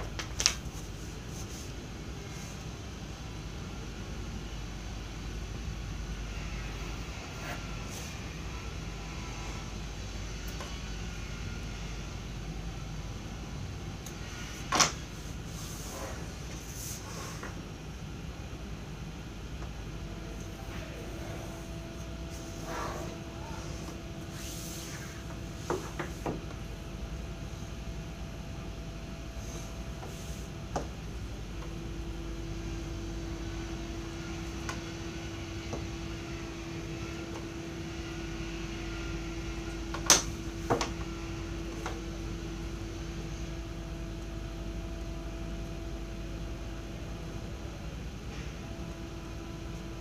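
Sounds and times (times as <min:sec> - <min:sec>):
room hum: 0:00.0 - 0:50.0.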